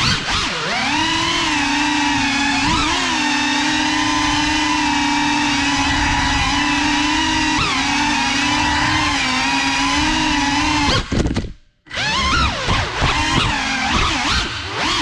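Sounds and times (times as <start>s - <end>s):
drone motors whining: 0.0s - 11.2s, 11.9s - 15.0s.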